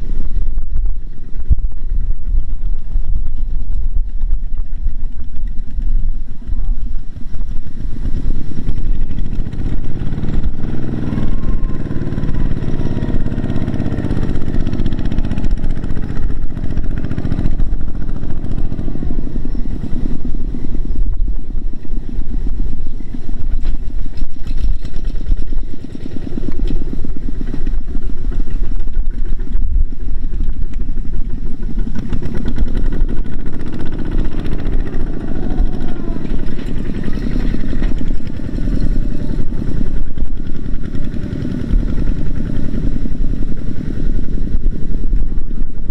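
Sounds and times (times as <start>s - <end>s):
diesel engine chugging under load: 0.0s - 45.9s.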